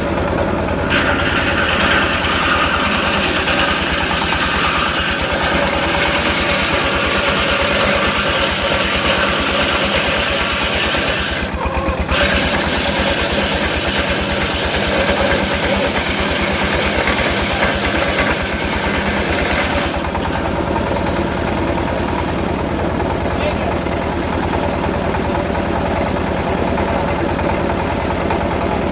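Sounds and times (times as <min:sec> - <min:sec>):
sawmill engine pulsing: 0:00.0 - 0:28.9.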